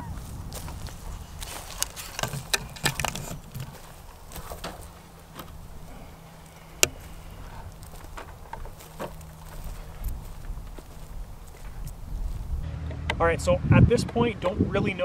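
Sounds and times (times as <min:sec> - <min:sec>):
footsteps crunching on stubble: 0:00.0 - 0:13.4
low wind rumble: 0:00.0 - 0:15.0.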